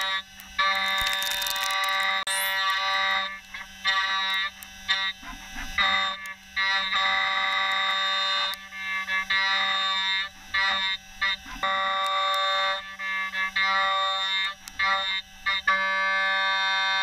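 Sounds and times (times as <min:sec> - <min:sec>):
milling cutter whine: 0:00.0 - 0:17.0.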